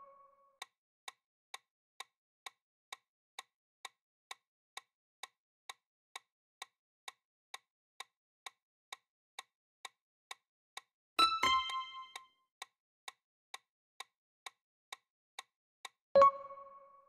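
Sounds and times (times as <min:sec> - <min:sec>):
clock-like timer ticks: 0:01.5 - 0:16.7.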